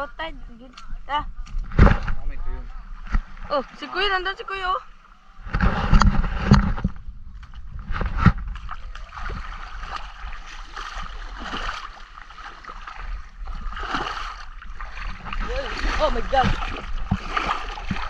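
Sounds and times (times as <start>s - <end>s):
seawater sloshing and splashing: 1.4s - 18.0s.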